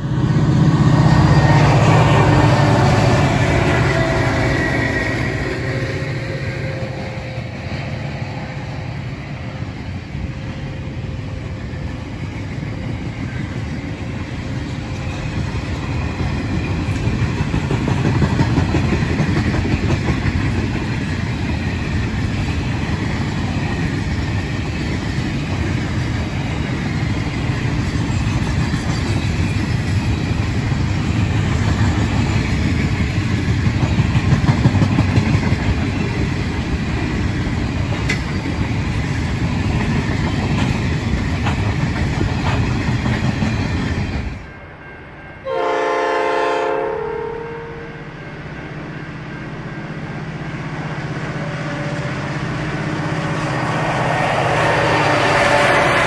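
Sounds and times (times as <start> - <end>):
train wheels rumbling on rail: 0.0 - 47.1, 47.7 - 56.0
diesel locomotive: 0.0 - 56.0.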